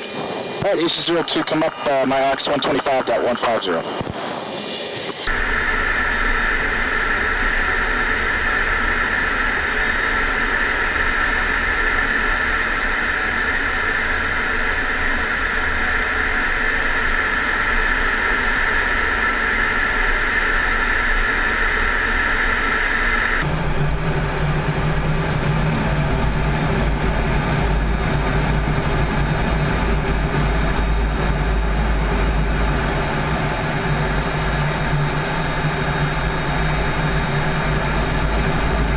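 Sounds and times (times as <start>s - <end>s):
jet engine and airflow rush: 0.0s - 38.9s.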